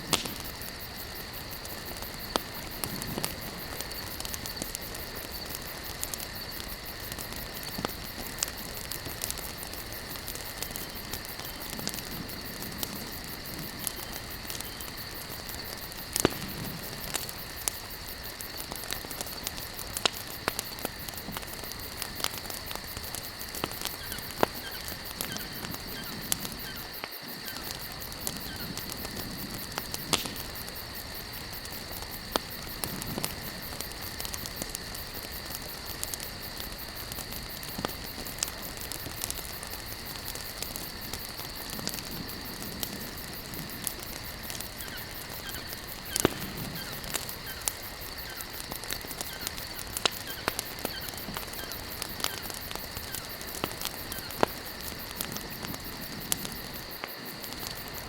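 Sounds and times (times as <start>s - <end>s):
campfire crackling and popping: 0.0s - 58.0s
soft steady hiss: 0.0s - 58.0s.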